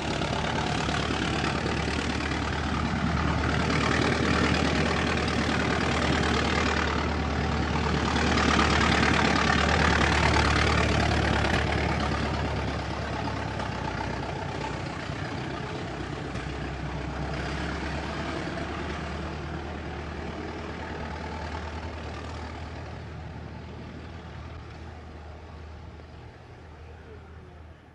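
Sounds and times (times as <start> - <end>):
old car engine idling: 0.0 - 27.9.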